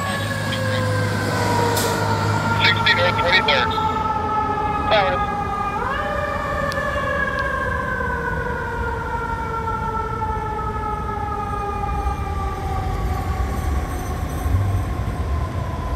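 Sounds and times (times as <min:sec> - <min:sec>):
fire engine siren: 0:00.0 - 0:15.9.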